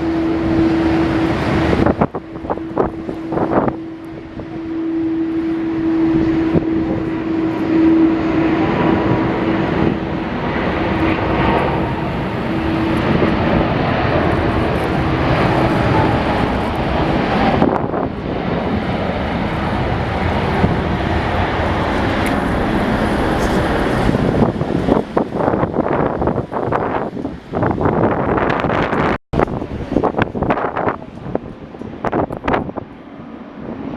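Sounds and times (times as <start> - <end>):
jet airliner engines roaring: 0.0 - 33.9.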